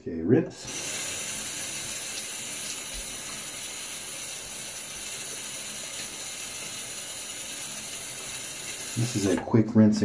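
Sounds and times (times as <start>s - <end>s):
sink tap running: 0.6s - 9.4s.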